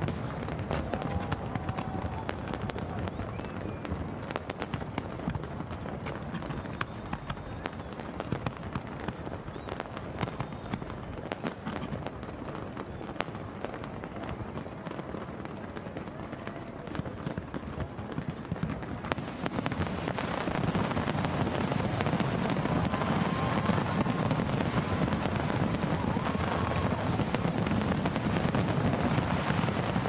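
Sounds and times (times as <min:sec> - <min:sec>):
fireworks cracks and bangs: 0:00.0 - 0:30.0.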